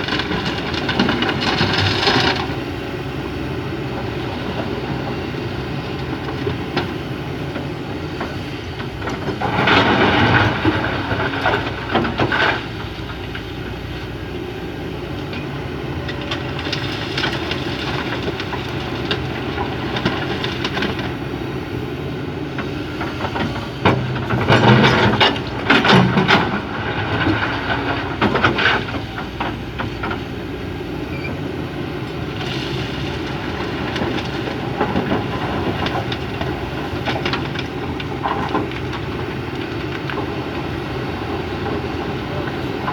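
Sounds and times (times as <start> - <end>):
diesel engine running: 0.0 - 42.9
excavator rattling and knocking: 0.0 - 42.9.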